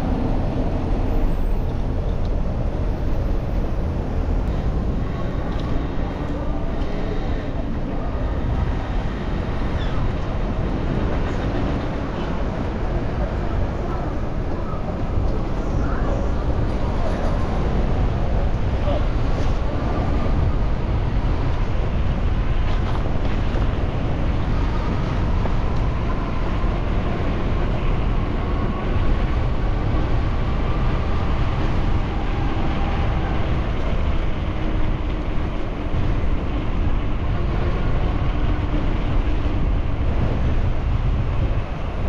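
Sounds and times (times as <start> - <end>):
road and traffic noise: 0.0 - 42.0
wind buffeting microphone: 0.0 - 42.0.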